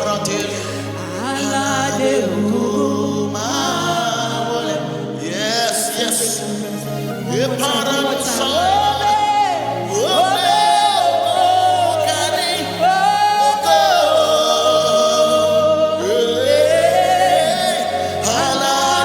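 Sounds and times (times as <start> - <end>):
sustained backing chords: 0.0 - 19.0.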